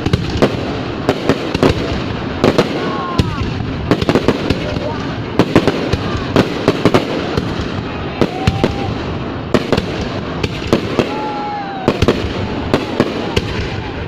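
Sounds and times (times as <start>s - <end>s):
dense din of firework bursts: 0.0s - 14.0s
fireworks bangs: 0.0s - 14.0s.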